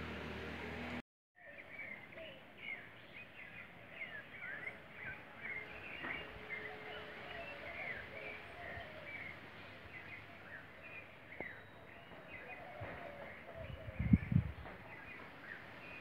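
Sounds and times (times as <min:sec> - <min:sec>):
birds chirping: 0:01.4 - 0:16.0.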